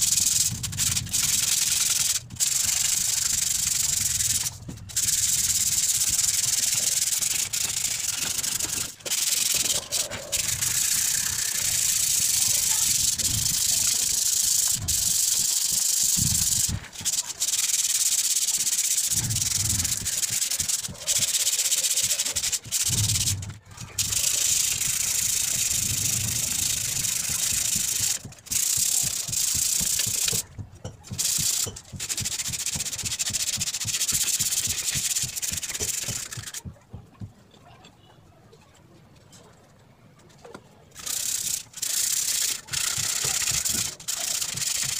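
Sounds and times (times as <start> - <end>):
sandpaper rasping on metal tube: 0.0 - 36.6, 41.0 - 44.9.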